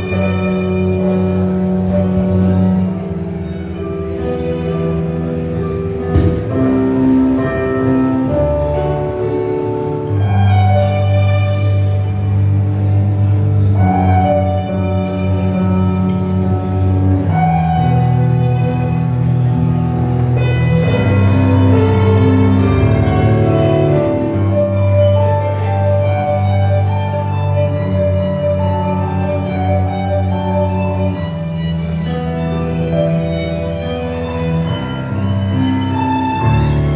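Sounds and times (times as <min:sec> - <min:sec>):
keyboard: 0:00.0 - 0:36.9
low sustained bass line: 0:00.0 - 0:36.9
violin: 0:00.0 - 0:36.9.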